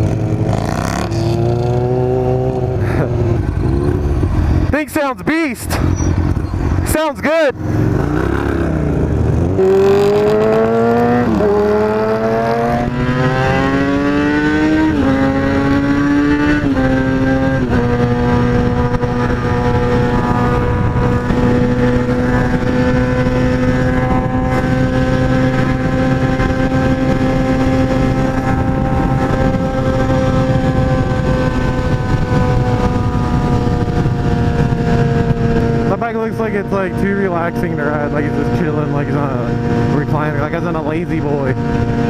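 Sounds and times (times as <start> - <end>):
motorcycle engine accelerating: 0.0 - 4.8, 5.6 - 6.9, 7.5 - 42.0.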